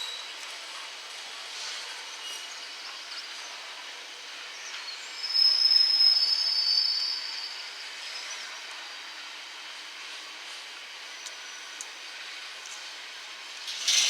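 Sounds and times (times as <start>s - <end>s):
train wheels squealing on rails: 0.0s - 12.5s.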